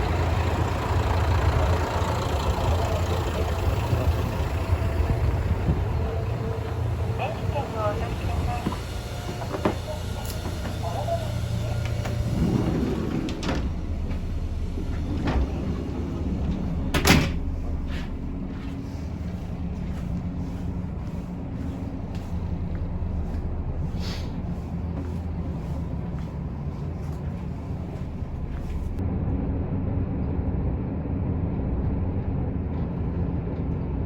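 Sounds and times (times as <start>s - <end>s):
railcar low rumble: 0.0s - 34.0s.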